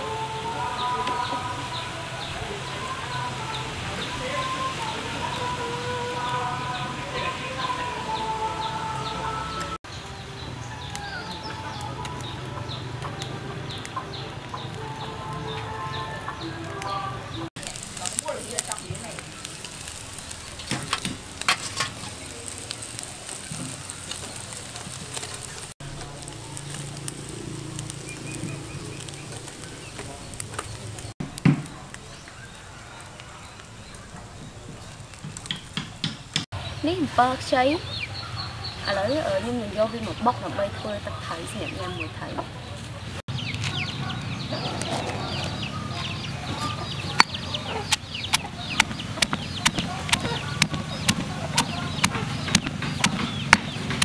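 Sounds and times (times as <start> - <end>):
fish sizzling on a grill: 0.0 - 42.3, 43.0 - 54.0
chickens chirping: 0.0 - 54.0.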